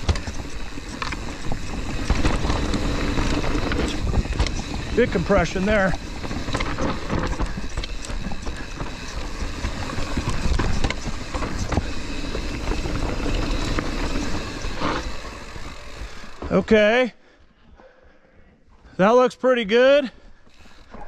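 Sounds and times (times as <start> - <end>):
bike tyres rumbling over rock: 0.0 - 16.9.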